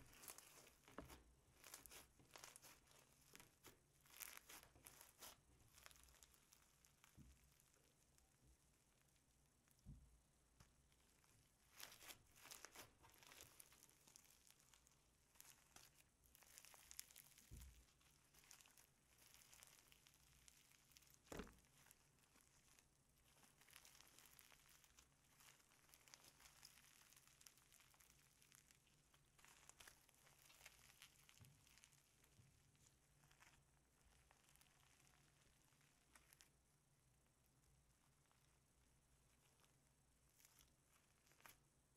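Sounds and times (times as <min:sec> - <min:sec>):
slime crackling and squishing: 0:00.0 - 0:41.9.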